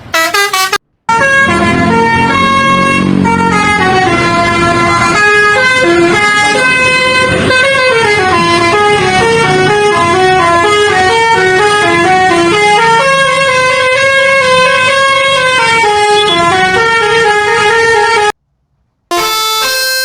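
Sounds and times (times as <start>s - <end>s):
bus multi-tone horn playing a tune: 0.0s - 18.4s, 19.1s - 20.0s.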